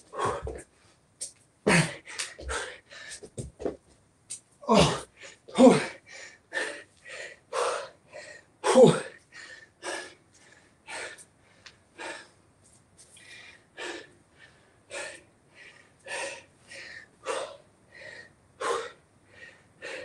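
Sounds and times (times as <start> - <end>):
man breathing hard: 0.0 - 1.0, 1.7 - 3.3, 4.7 - 12.4, 13.1 - 20.0.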